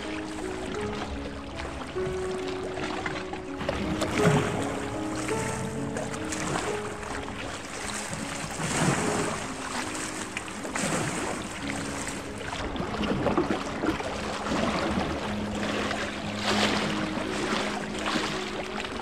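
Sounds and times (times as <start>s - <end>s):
soft sustained music notes: 0.0s - 19.0s
waves splashing against rocks: 0.0s - 19.0s.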